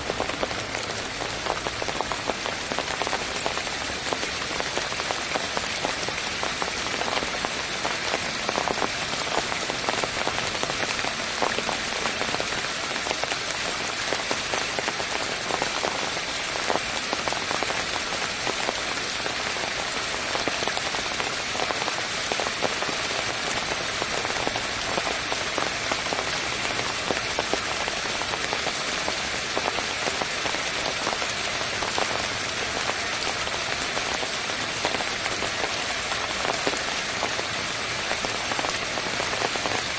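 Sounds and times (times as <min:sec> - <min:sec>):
water splashing over rocks: 0:00.0 - 0:39.9.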